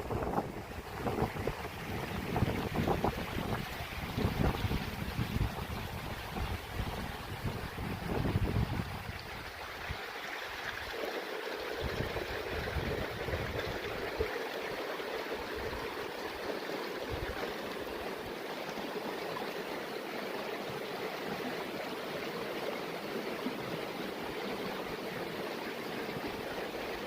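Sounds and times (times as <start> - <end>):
stream rushing and gurgling: 0.0 - 27.0.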